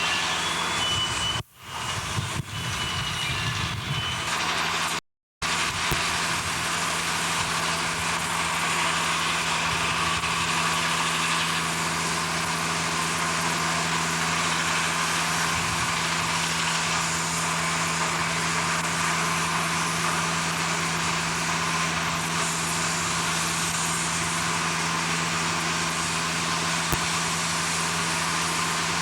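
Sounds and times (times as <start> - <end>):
heavy machinery droning: 0.0 - 29.0.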